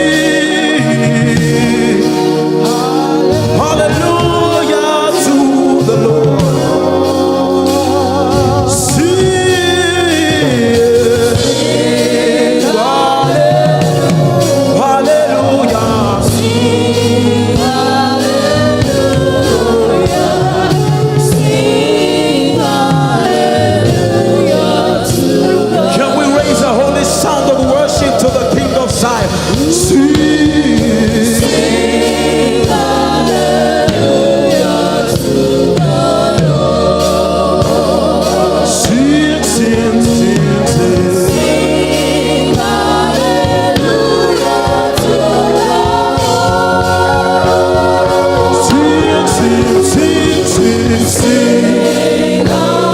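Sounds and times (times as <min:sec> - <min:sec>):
instrumental backing: 0:00.0 - 0:52.9
voices singing together: 0:00.0 - 0:52.9
percussive beats: 0:00.6 - 0:52.9.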